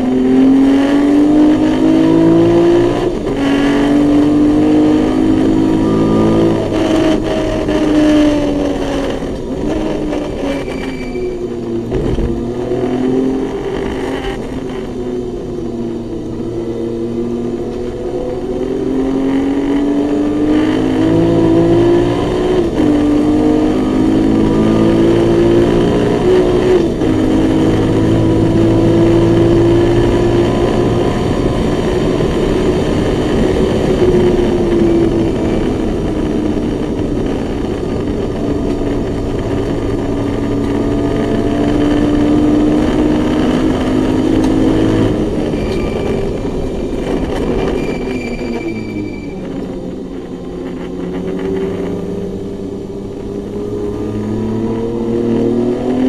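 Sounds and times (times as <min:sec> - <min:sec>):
race car engine from inside cabin: 0:00.0 - 0:56.0.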